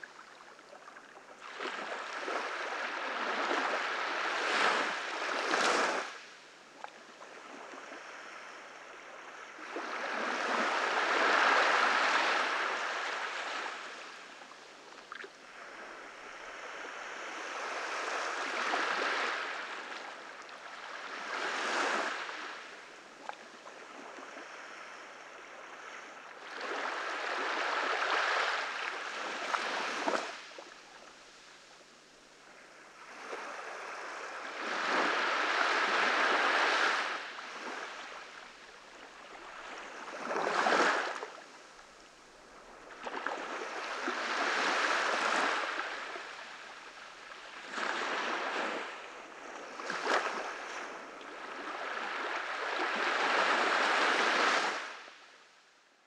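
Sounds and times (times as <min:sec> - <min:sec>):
small waves breaking on a beach: 0:00.0 - 0:56.0.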